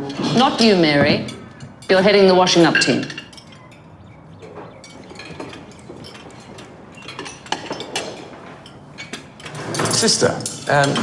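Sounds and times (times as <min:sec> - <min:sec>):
crockery and cutlery clinking: 0:00.0 - 0:11.0.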